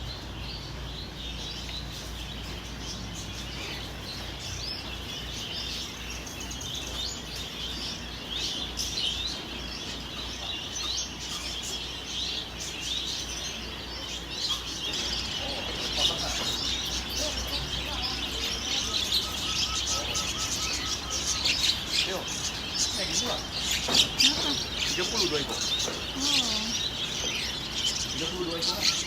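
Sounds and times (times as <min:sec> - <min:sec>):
caged birds chirping: 0:00.0 - 0:29.0.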